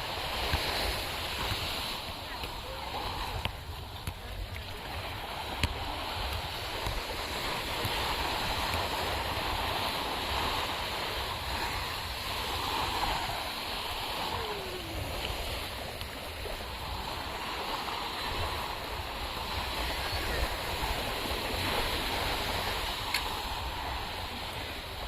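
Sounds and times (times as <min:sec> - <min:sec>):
surf washing onto beach: 0:00.0 - 0:25.0.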